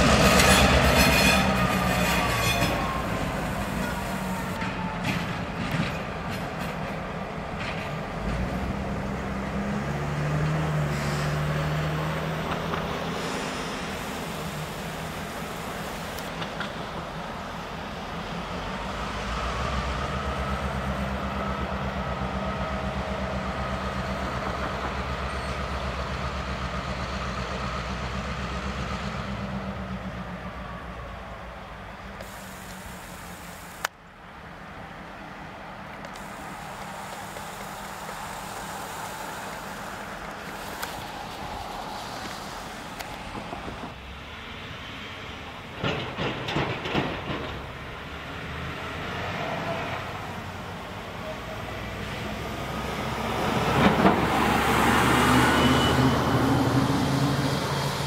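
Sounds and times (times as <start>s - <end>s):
diesel locomotive engine running: 0.0s - 58.0s
steady outdoor noise: 0.0s - 58.0s.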